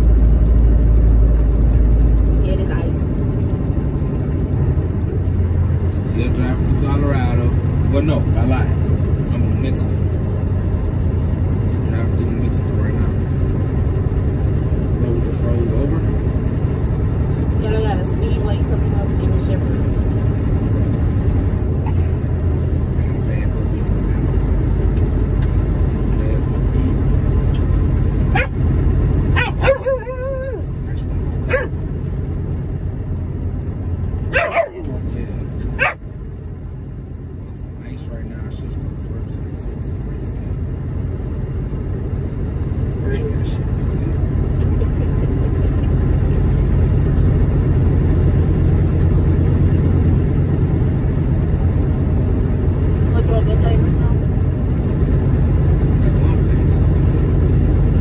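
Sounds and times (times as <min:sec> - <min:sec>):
road noise: 0:00.0 - 0:58.0
truck engine and tyres rumbling: 0:00.0 - 0:58.0.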